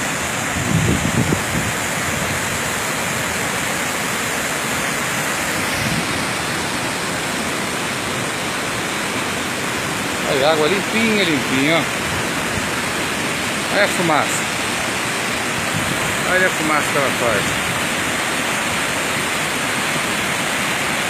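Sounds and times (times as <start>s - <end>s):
waterfall and river rushing over rocks: 0.0s - 21.0s.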